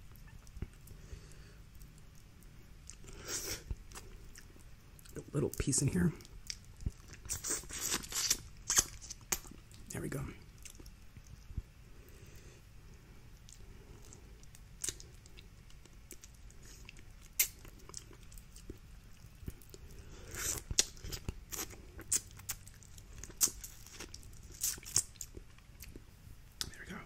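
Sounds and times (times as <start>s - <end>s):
chewing and crunching: 0.1s - 26.9s.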